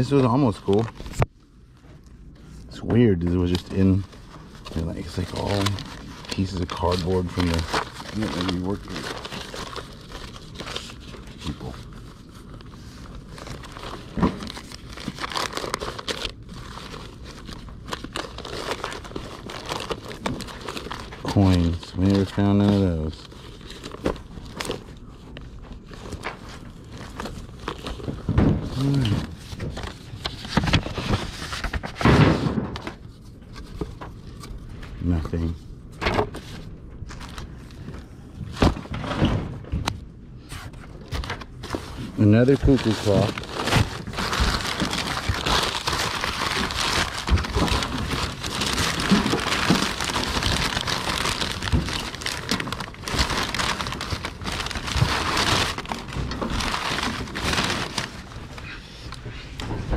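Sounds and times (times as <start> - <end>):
paper and cardboard rustling: 0.0 - 1.2, 2.4 - 39.3, 39.9 - 59.9.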